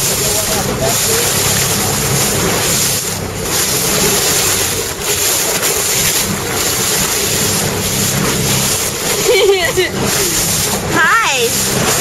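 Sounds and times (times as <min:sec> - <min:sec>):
low engine hum: 0:00.0 - 0:12.0
water rushing and splashing: 0:00.0 - 0:12.0.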